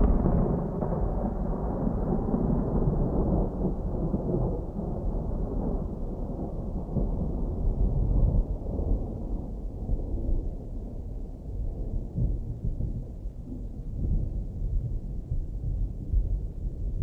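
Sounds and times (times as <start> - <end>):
distant thunder rumbling: 0.0 - 10.2, 11.7 - 17.0.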